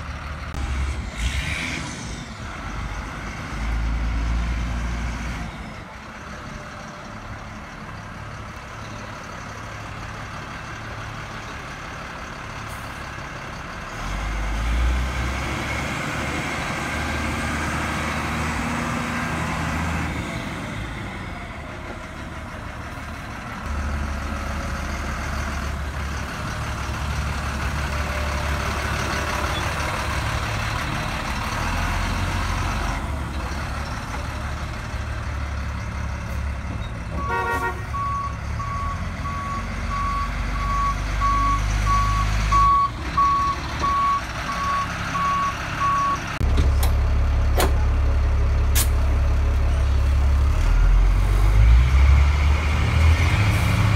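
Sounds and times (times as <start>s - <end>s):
diesel bus engine running: 0.0s - 53.9s.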